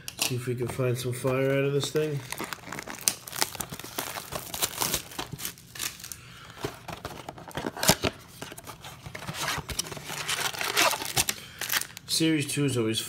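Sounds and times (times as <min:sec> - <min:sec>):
plastic wrap crinkling and tearing: 0:01.0 - 0:12.2.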